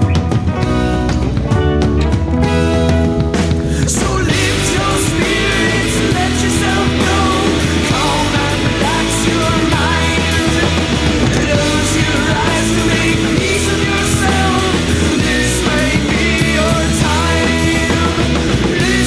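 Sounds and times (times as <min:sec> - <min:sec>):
song with singer drums and bass: 0:00.0 - 0:19.0.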